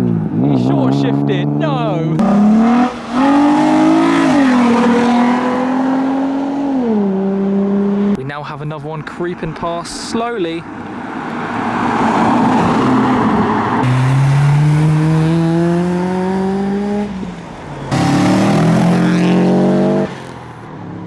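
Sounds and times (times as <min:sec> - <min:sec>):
car accelerating hard: 0:00.0 - 0:08.2, 0:11.2 - 0:20.6.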